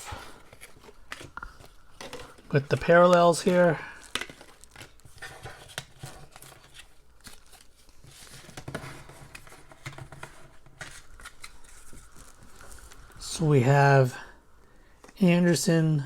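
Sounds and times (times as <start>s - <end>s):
cards rustling and clicking: 0.2s - 13.2s.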